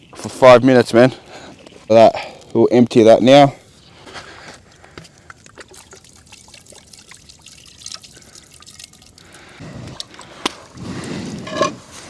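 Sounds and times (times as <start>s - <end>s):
melted fat dripping and trickling: 0.0s - 11.4s.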